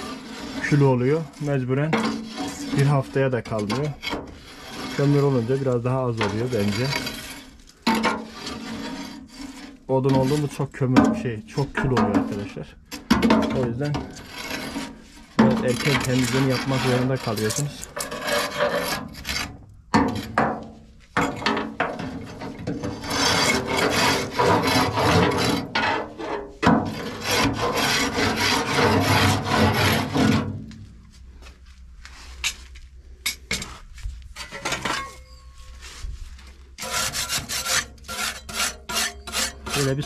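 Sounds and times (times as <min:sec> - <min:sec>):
metal tool scraping boiler: 0:00.0 - 0:30.7, 0:34.3 - 0:35.6, 0:36.8 - 0:40.0.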